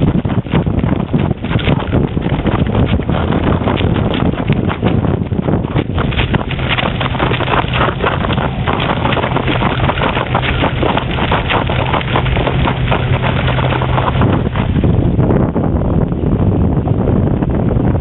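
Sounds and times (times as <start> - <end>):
bicycle tyres crunching over gravel: 0.0 - 14.9
steady low hum: 0.0 - 18.0
wind buffeting microphone: 0.0 - 18.0.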